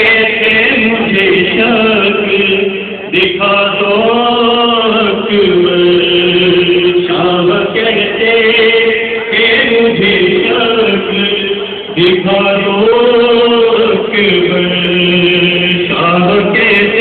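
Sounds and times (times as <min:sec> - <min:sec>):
person chanting a lament: 0:00.0 - 0:17.0.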